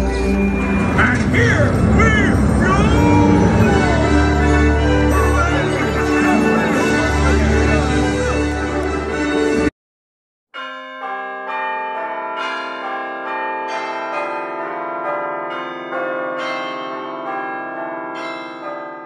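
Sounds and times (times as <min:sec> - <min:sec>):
bell-like chimes ringing: 0:00.0 - 0:09.7, 0:10.6 - 0:19.0.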